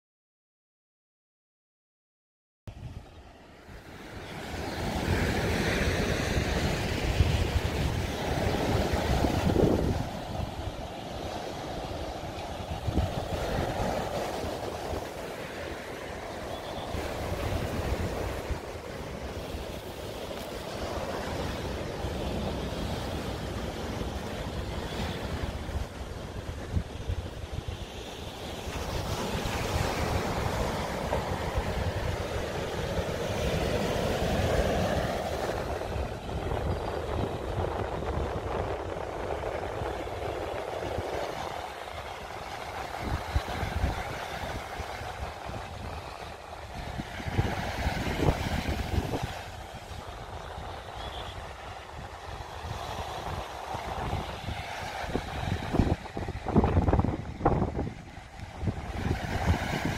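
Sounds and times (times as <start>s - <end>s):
surf washing up on beach: 2.7s - 59.9s
wind buffeting microphone: 2.7s - 59.9s
sea waves on rocky shore: 2.8s - 59.9s.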